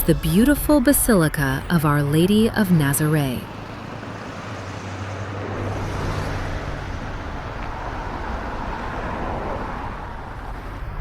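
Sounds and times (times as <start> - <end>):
street traffic hum and hiss: 0.0 - 11.0.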